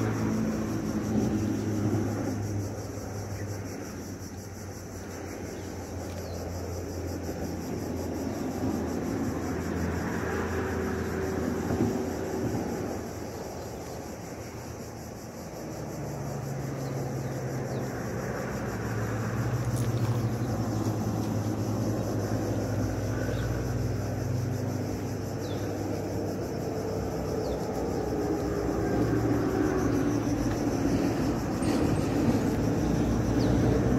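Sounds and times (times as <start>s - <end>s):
insects buzzing faintly: 0.0s - 33.9s.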